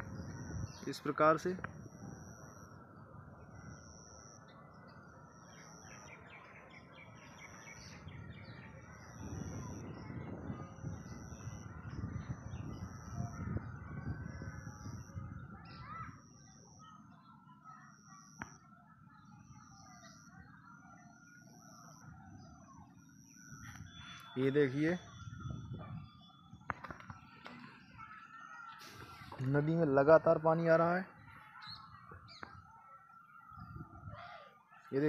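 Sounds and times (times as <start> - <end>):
faint high-pitched pulse: 0.0 - 29.9
birds chirping: 0.0 - 35.0.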